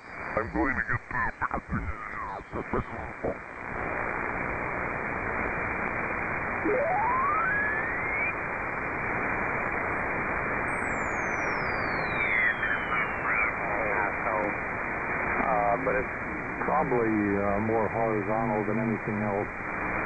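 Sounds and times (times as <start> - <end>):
radio band noise hissing: 0.0 - 20.0.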